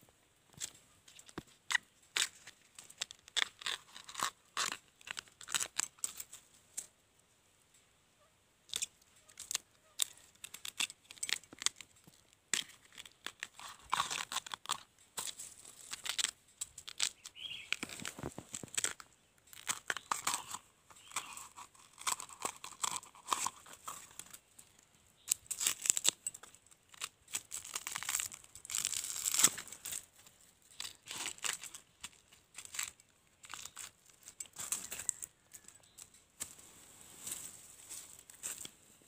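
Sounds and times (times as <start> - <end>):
bamboo shoot layers tearing: 0.6 - 6.9, 8.7 - 24.4, 25.2 - 36.6.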